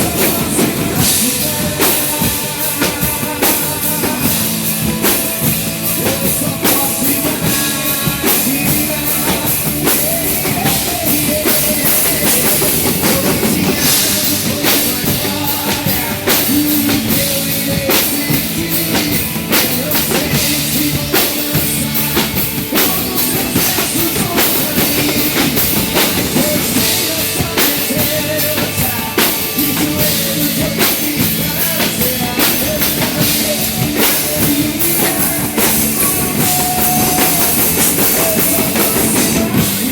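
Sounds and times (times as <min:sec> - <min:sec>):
band playing worship ballad: 0:00.0 - 0:39.9
drum kit playing: 0:00.0 - 0:39.9.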